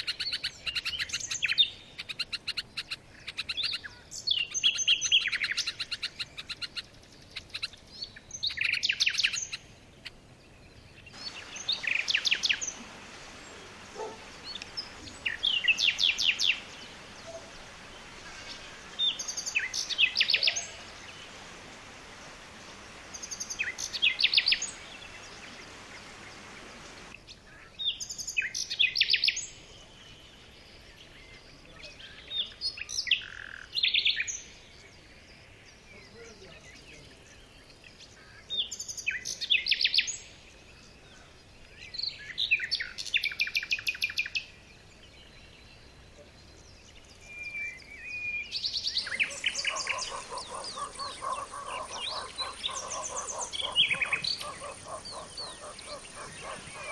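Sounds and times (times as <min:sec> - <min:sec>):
faint steady hiss: 0:00.0 - 0:56.9
songbird chirping: 0:00.0 - 0:56.9.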